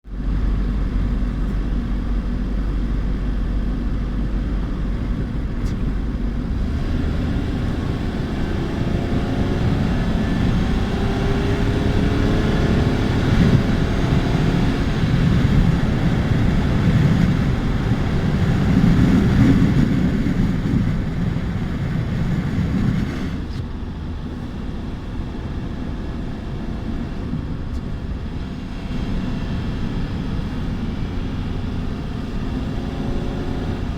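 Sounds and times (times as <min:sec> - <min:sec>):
car engine and exhaust running: 0:00.0 - 0:33.9.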